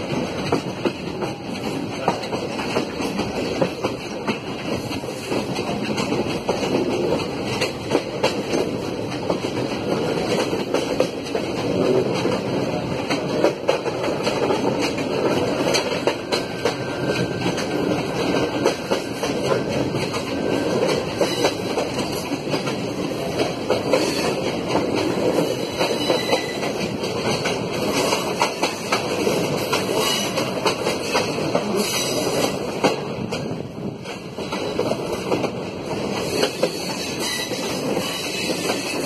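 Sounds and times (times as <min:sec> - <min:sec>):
rushing rumble of train: 0:00.0 - 0:39.0
train wheels clattering over joints: 0:00.0 - 0:39.0.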